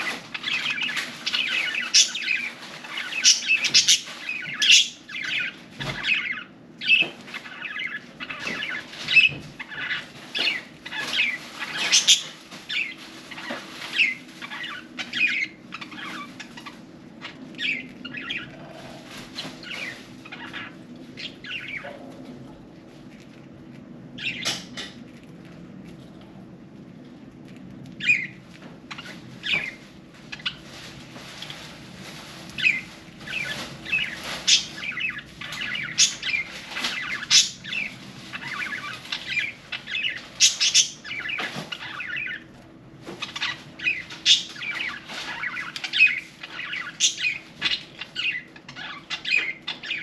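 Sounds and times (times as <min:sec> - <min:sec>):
budgies chirping and chattering: 0:00.0 - 0:22.3, 0:24.2 - 0:25.0, 0:28.0 - 0:31.6, 0:32.4 - 0:50.0
faint steady hum: 0:00.0 - 0:50.0.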